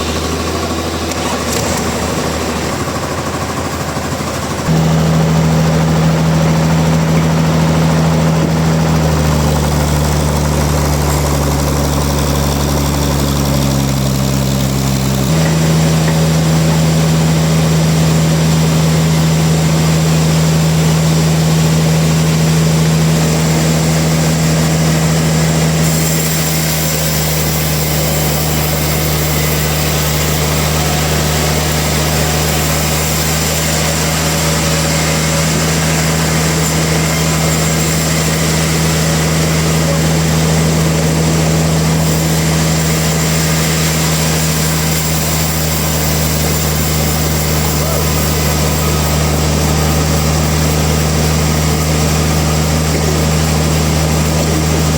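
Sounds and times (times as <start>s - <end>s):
heavy machinery engine humming: 0.0s - 54.9s.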